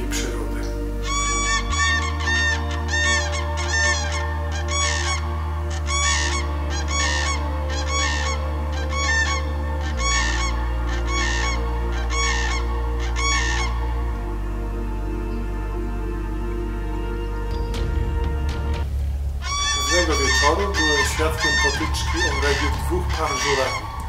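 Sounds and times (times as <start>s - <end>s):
cranes trumpeting: 0.0s - 24.0s
low music chords: 0.0s - 24.0s.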